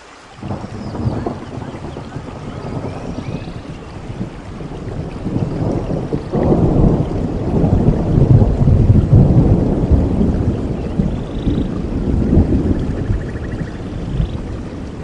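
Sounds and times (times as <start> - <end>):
steady rain: 0.0 - 15.0
rolling thunder: 0.4 - 15.0.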